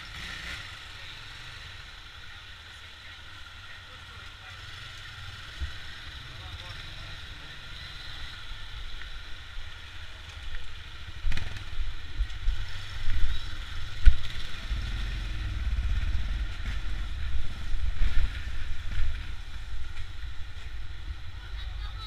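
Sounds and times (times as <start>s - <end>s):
motorcycle engines rumbling: 0.0s - 22.0s.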